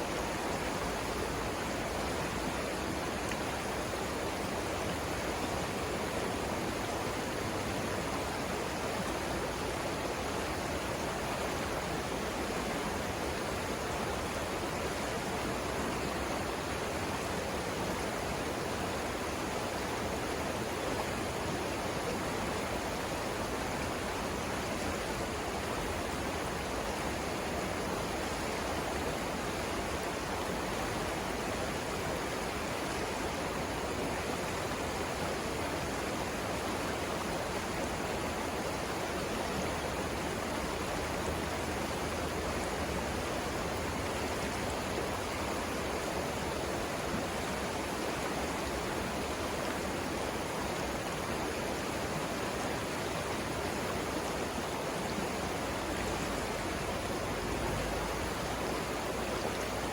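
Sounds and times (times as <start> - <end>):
river rushing over rapids: 0.0 - 59.9.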